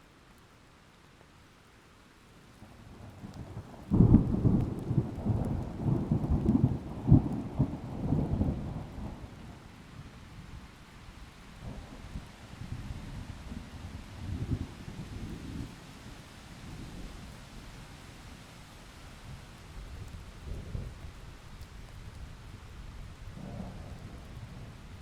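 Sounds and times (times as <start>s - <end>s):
faint rain: 0.0s - 25.0s.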